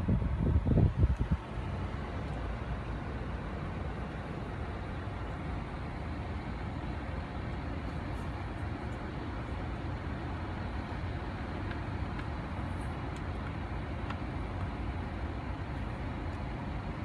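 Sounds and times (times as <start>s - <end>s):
climate-control fan blowing: 0.0s - 17.0s
car engine running: 0.8s - 17.0s.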